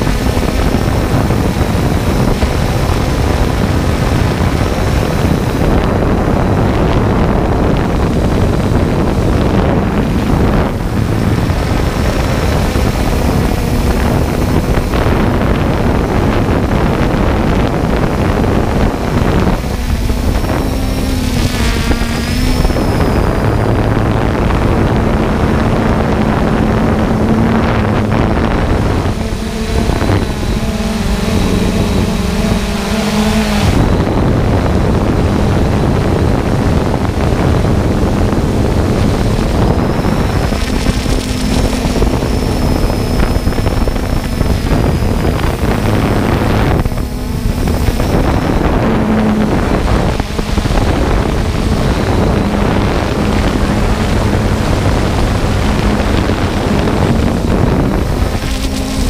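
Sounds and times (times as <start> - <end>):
drone motor hum: 0.0 - 59.0
prop wash and wind rushing: 0.0 - 59.0.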